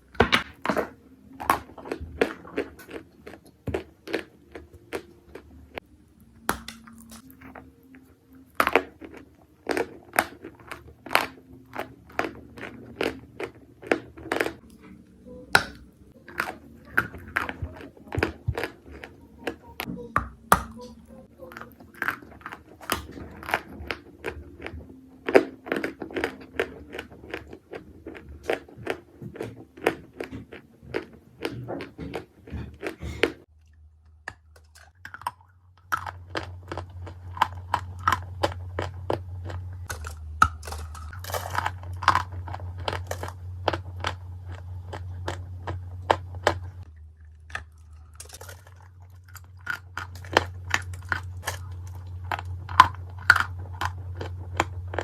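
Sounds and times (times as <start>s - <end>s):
clay being chewed with crunches: 0.1s - 55.0s.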